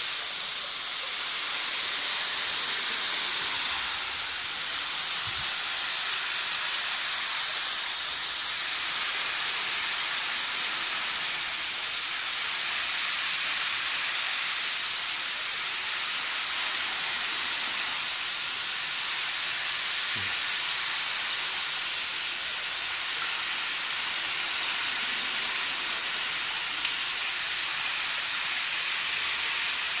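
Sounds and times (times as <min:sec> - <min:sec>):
water spraying: 0:00.0 - 0:30.0.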